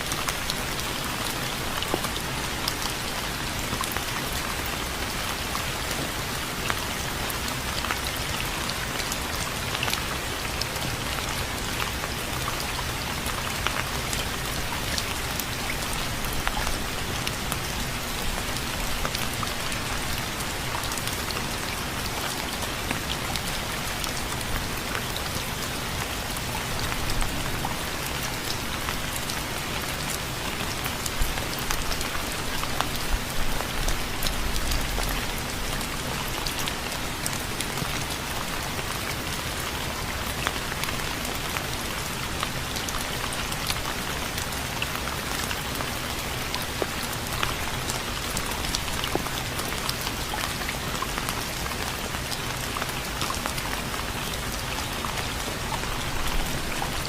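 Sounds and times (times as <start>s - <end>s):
rain pattering: 0.0s - 57.0s.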